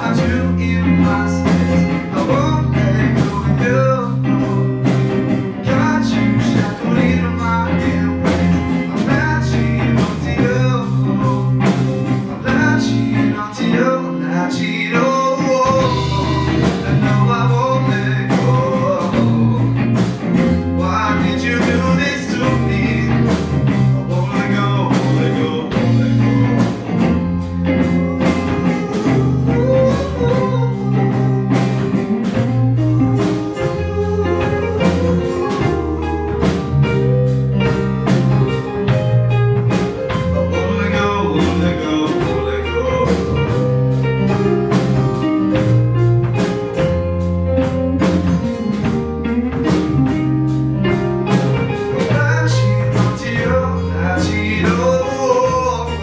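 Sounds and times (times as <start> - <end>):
man singing: 0.0 - 47.0, 51.4 - 56.0
drum kit beat: 0.0 - 56.0
live rock band playing: 0.0 - 56.0.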